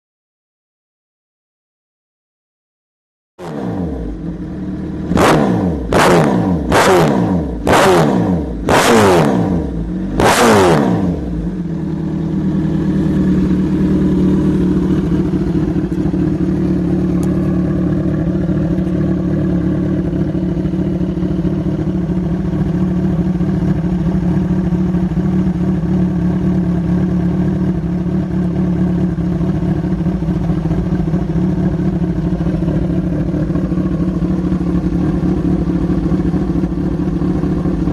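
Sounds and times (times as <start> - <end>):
motorcycle exhaust revving and idling: 3.4 - 37.9.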